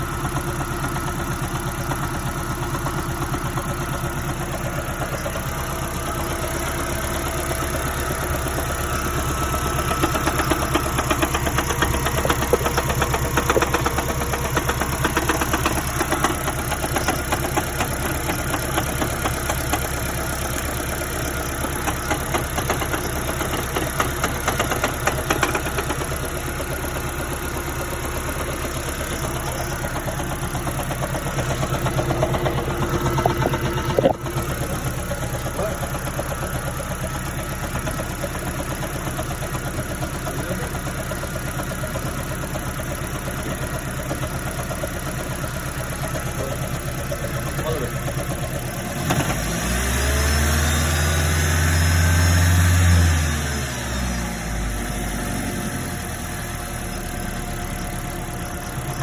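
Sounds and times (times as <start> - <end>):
car engine knocking: 0.0 - 52.7, 56.1 - 59.0.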